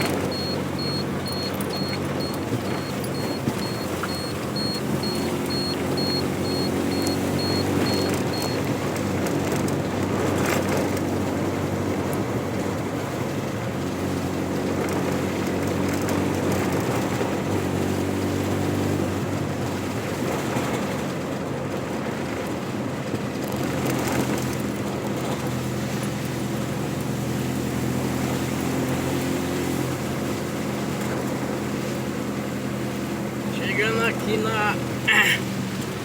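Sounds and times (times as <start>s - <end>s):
road and wind noise: 0.0s - 36.0s
vehicle engine running: 0.0s - 36.0s.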